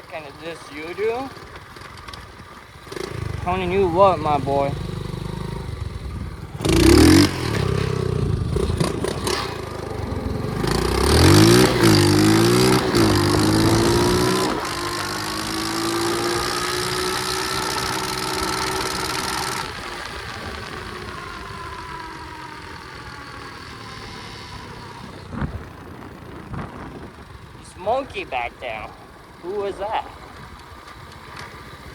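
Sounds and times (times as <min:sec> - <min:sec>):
motorbike engine accelerating: 0:00.2 - 0:31.9.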